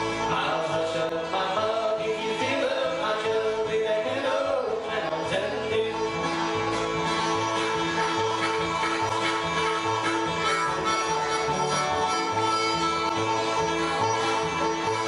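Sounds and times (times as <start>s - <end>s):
double bass: 0.0s - 15.0s
fiddle: 0.0s - 15.0s
guitar: 0.0s - 15.0s
harmonica: 0.0s - 15.0s.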